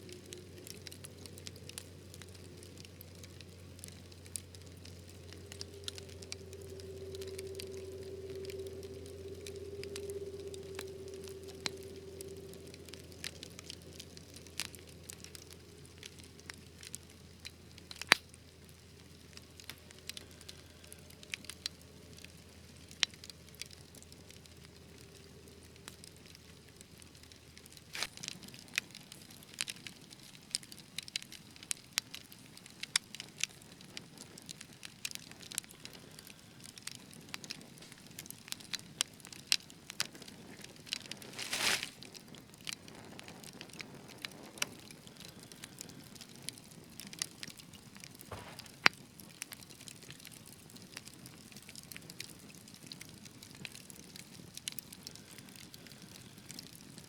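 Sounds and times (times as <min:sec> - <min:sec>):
wood fire crackling: 0:00.0 - 0:57.0
sharp pops of fire: 0:00.1 - 0:57.0.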